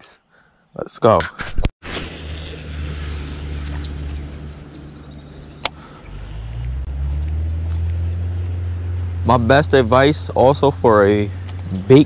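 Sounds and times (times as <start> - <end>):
vehicle engine passing by: 1.9 - 12.0.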